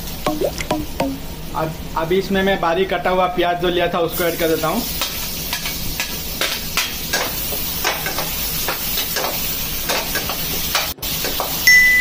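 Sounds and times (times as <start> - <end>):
vegetables sizzling: 0.0 - 1.8, 4.1 - 12.0.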